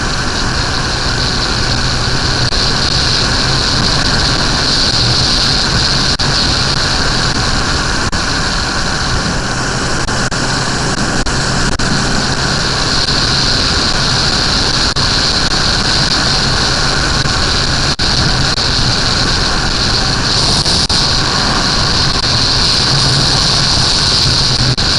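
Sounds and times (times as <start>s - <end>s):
motorcycle engine low hum: 0.0s - 24.9s
wind rush over microphone: 0.0s - 24.9s.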